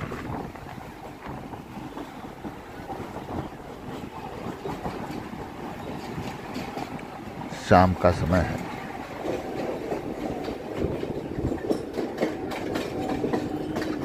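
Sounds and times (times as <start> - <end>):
wind noise on microphone: 0.0 - 7.5, 8.5 - 14.0
train wheels rumbling on track: 0.0 - 14.0.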